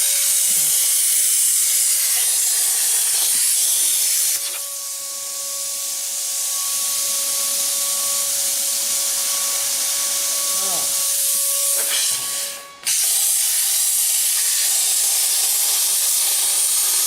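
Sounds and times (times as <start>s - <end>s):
power tool hissing and whining: 0.0s - 17.0s.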